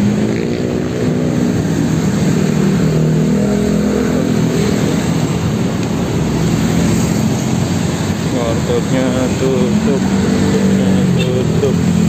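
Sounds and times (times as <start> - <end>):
steady road noise: 0.0 - 12.0
vehicle engines running: 0.0 - 12.0.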